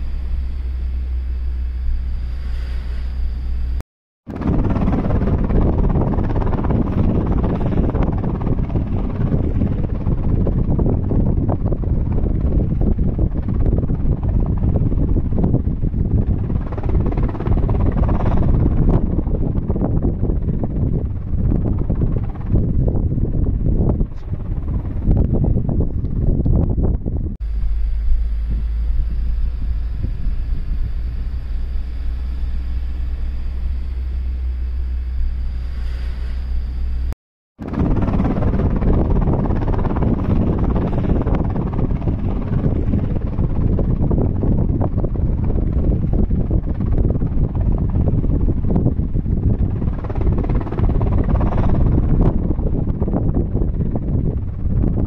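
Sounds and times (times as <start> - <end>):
helicopter rotor chop: 0.0 - 55.0
vehicle engine rumble: 0.0 - 55.0
wind buffeting microphone: 4.3 - 55.0.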